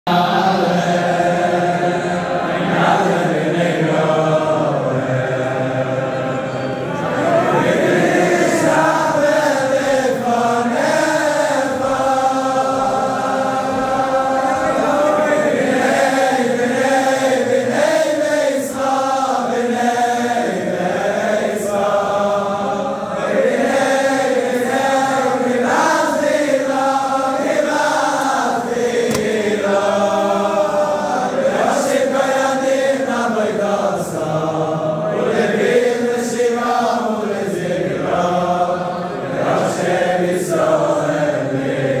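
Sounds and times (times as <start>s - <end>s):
crowd of men singing: 0.1s - 42.0s.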